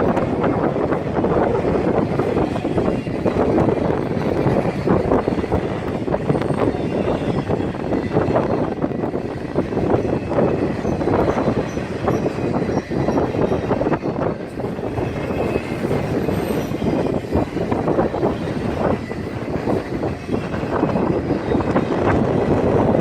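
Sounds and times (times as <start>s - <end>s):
train cars rumbling past: 0.0s - 23.0s.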